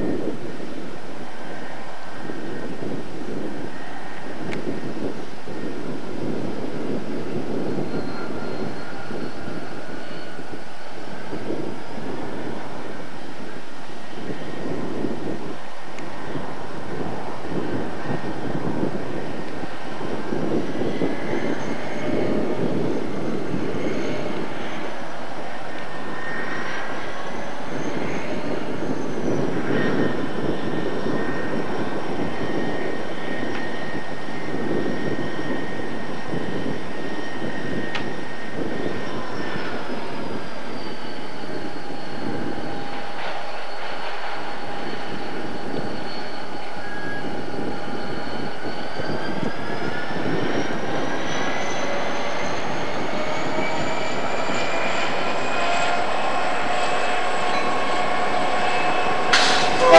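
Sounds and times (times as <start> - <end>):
diesel locomotive engine rumble: 0.0 - 59.9
locomotive high whine: 0.0 - 59.9.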